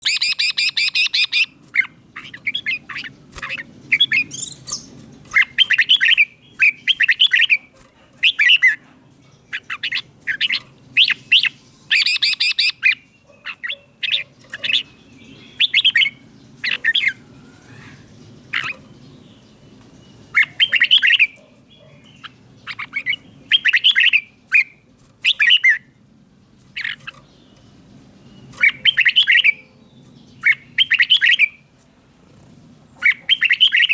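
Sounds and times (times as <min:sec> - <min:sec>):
bird warbling: 0:00.0 - 0:08.8, 0:09.4 - 0:19.6, 0:20.2 - 0:25.9, 0:26.6 - 0:31.6, 0:33.0 - 0:33.9.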